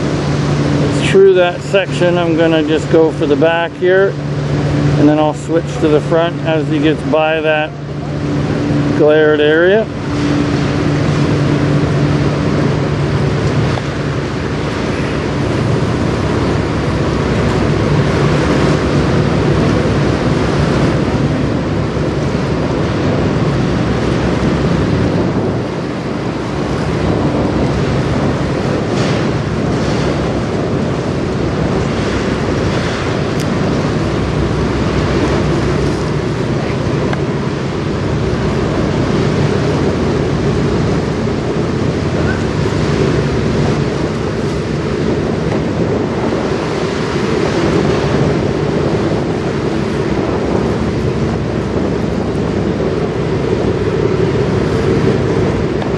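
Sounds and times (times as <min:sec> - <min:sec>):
choppy river water: 0:00.0 - 0:55.9
low boat engine drone: 0:00.0 - 0:55.9
wind buffeting microphone: 0:00.0 - 0:55.9.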